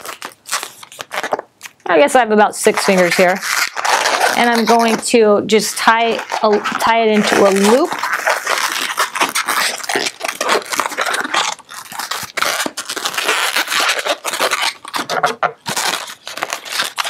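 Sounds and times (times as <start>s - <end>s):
balloon latex rubbing and crackling: 0.0s - 17.0s.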